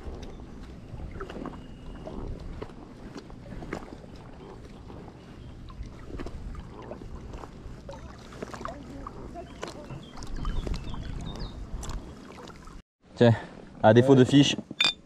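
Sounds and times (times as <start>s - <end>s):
wind buffeting microphone: 0.0s - 12.3s
small waves lapping against hull: 0.0s - 12.8s.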